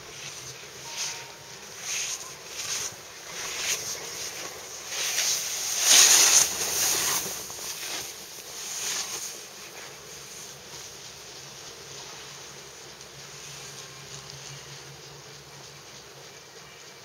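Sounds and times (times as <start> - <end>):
snowboard scraping through snow: 0.0 - 16.0.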